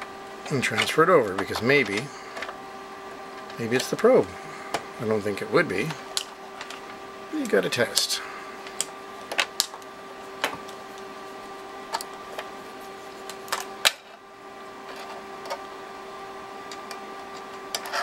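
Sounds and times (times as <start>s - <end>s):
steady multi-pitch hum: 0.0s - 18.0s.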